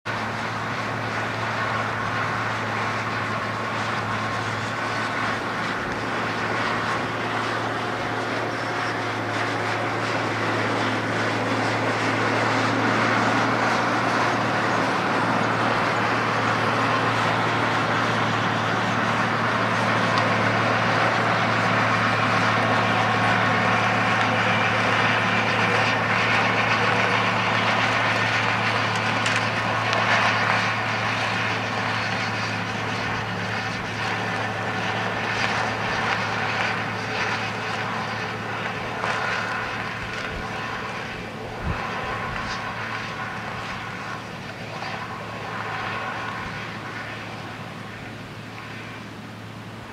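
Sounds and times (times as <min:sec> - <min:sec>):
tractor diesel engine droning: 0:00.0 - 0:49.9
spreader beaters throwing silage: 0:00.1 - 0:48.8.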